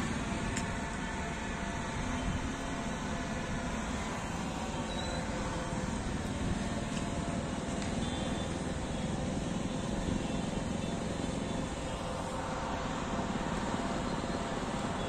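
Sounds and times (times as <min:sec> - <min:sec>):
distant traffic rumble: 0:00.0 - 0:15.0
wind: 0:00.0 - 0:15.0.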